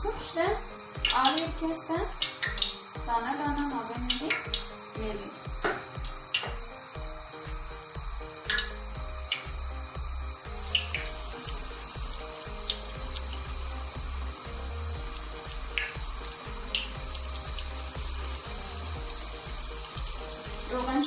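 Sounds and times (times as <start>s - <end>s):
background music with pulsing bass: 0.0s - 21.0s
deep-frying sizzle: 0.0s - 21.0s.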